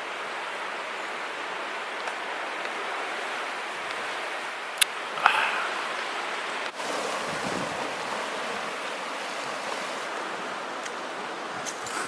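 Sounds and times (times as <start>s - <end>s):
strong wind: 0.0s - 12.0s
surf: 0.0s - 12.0s.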